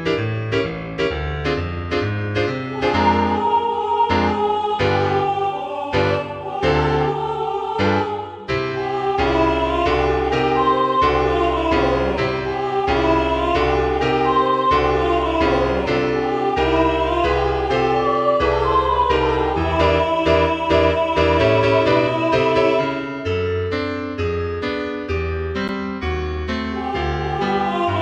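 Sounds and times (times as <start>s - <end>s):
synthesized choir melody: 0.0s - 25.7s, 26.5s - 28.0s
piano accompaniment: 0.0s - 28.0s.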